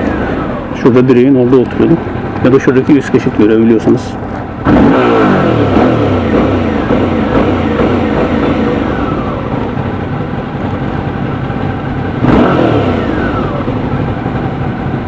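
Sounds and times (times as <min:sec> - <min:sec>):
motorcycle engine revs falling: 0:00.0 - 0:15.0.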